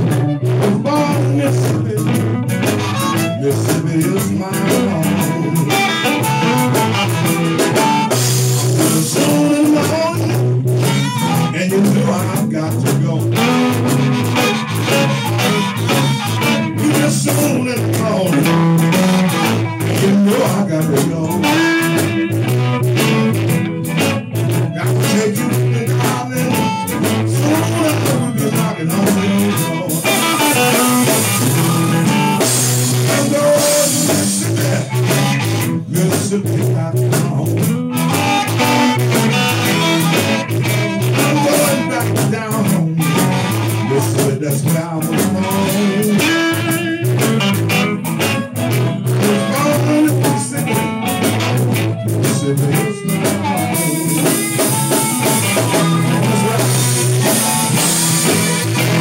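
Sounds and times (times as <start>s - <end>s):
blues harmonica through amp: 0.0s - 59.0s
drum kit: 0.0s - 59.0s
electric guitars: 0.0s - 59.0s.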